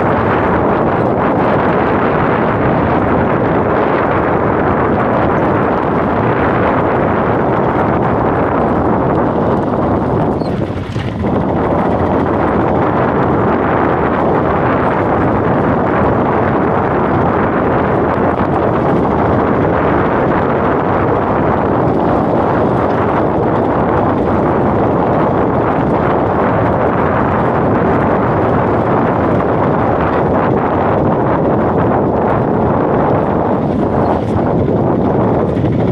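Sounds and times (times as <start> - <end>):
vehicle and road noise: 0.0 - 35.9
wind buffeting microphone: 0.0 - 35.9.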